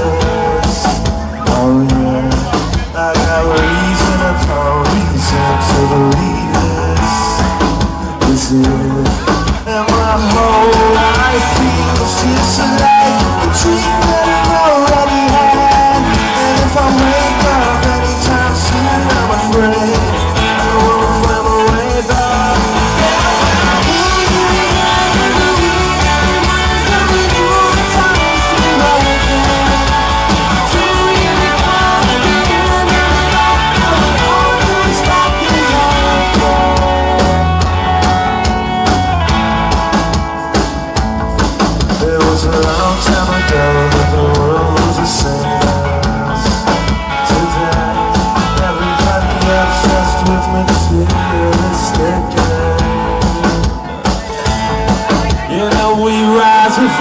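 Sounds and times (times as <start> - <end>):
drum kit: 0.0 - 57.0
electric bass: 0.0 - 57.0
electric guitars: 0.0 - 57.0.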